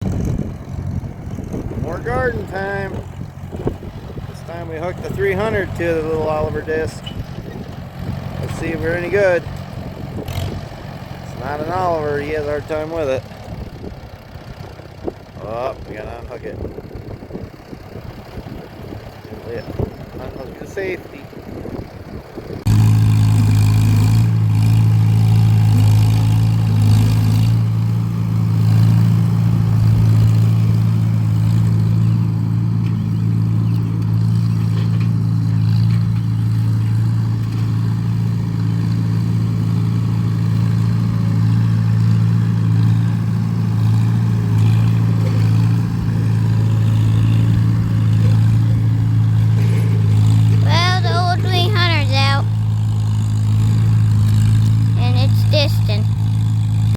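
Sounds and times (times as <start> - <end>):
tractor engine running under load: 0.0 - 56.9.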